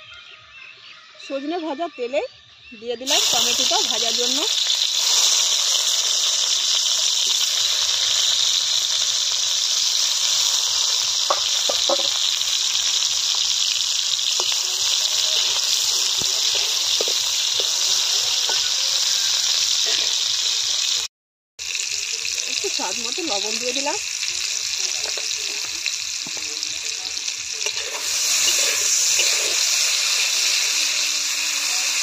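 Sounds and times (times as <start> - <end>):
tomatoes sizzling in hot oil: 3.0 - 32.0
oil crackling and spattering: 3.1 - 32.0.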